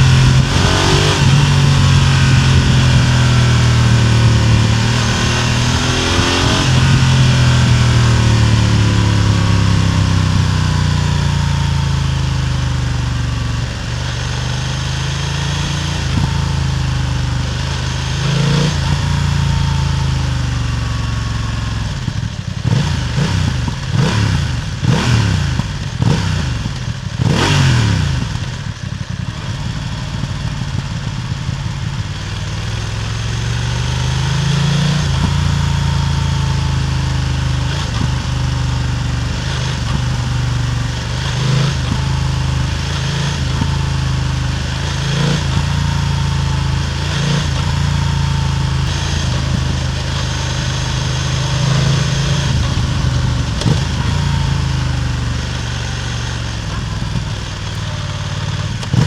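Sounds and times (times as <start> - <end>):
motorcycle exhaust: 0.0 - 59.0.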